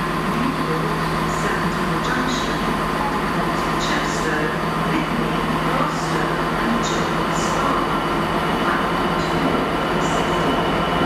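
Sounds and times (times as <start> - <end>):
diesel locomotive engine droning: 0.0 - 11.0.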